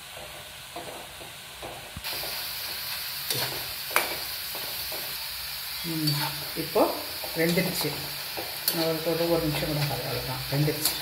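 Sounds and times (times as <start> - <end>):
chips sizzling in hot oil: 0.0 - 11.0.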